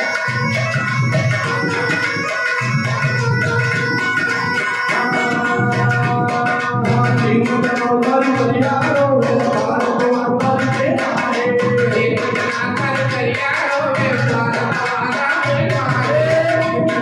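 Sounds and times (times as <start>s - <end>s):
hand-drum beats: 0.0s - 17.0s.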